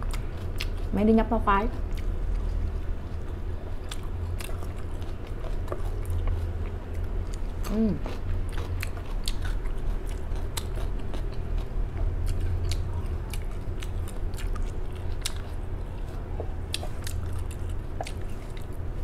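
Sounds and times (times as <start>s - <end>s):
person chewing crunchy lettuce: 0.0s - 1.0s, 1.8s - 19.0s
steady low hum: 0.0s - 19.0s.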